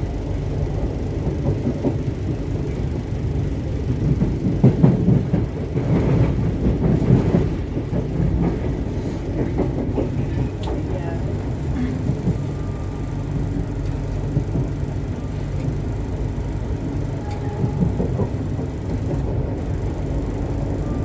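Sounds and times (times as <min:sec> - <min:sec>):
train coach rumble: 0:00.0 - 0:21.0
wheels clattering over track: 0:03.9 - 0:21.0.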